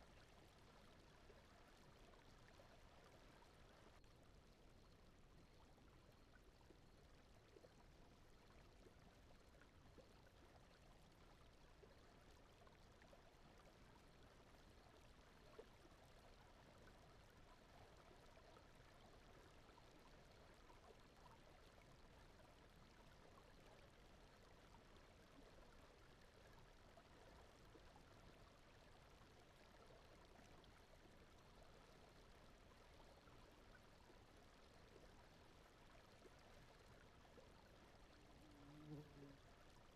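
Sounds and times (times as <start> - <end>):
faint brown noise: 0.0 - 39.9
softly running stream: 0.0 - 39.9.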